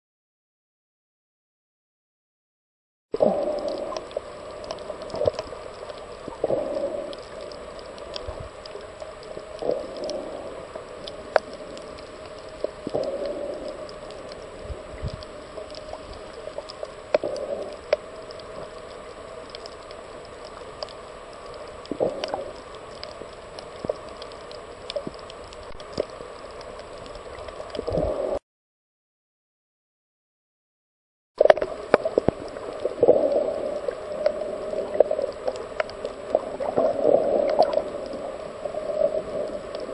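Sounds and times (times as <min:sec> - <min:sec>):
underwater clicks and bubbling: 0:03.2 - 0:28.4, 0:31.4 - 0:39.9
underwater water wash: 0:03.2 - 0:28.4, 0:31.4 - 0:39.9.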